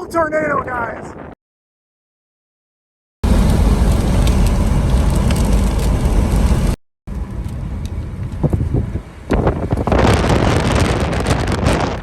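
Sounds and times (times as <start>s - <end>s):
strong wind blasting microphone: 0.0s - 1.4s, 3.3s - 12.0s.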